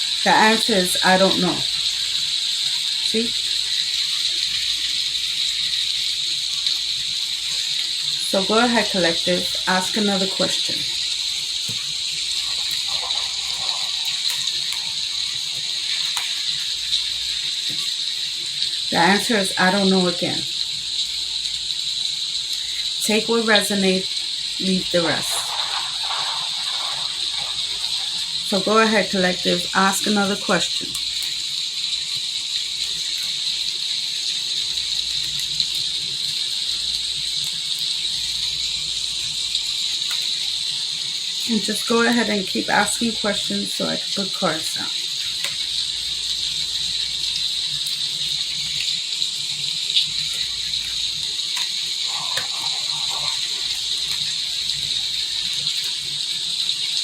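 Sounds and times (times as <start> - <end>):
recorded rain hiss: 0.0 - 57.0.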